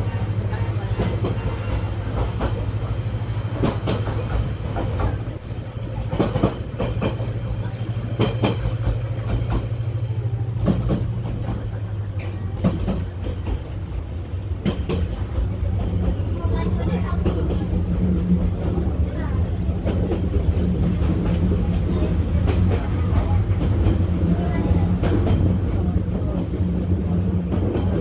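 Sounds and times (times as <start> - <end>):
train rumble: 0.0 - 28.0
wheels clacking over rail joints: 0.0 - 28.0.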